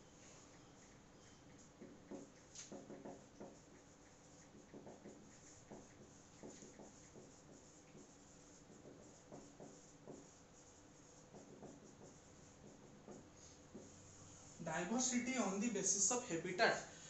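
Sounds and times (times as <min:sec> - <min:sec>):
marker squeaking on whiteboard: 0:00.2 - 0:14.1.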